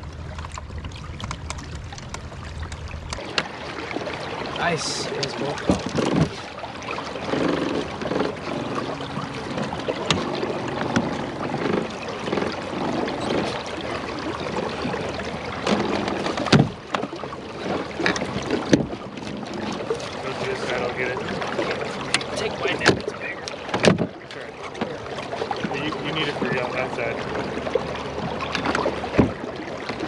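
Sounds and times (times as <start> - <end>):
water lapping against hulls: 0.0 - 30.0.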